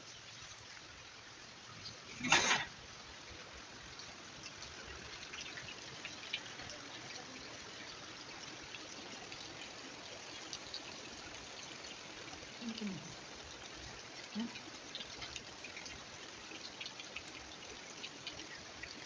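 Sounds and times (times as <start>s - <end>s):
steady rain falling and trickling: 0.0s - 19.0s.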